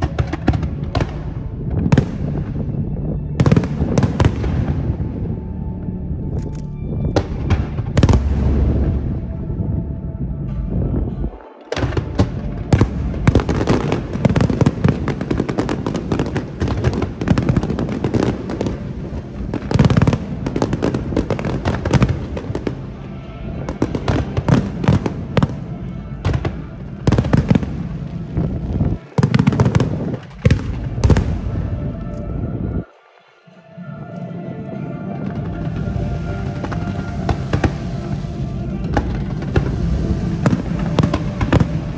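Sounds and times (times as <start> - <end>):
fireworks bangs and crackling: 0.0 - 5.4, 6.5 - 9.9, 10.6 - 32.1, 35.3 - 41.9.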